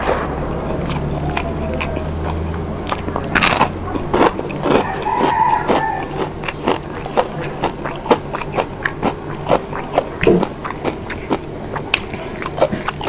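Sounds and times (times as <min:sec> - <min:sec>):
person chewing with mouth smacks: 0:00.5 - 0:13.0.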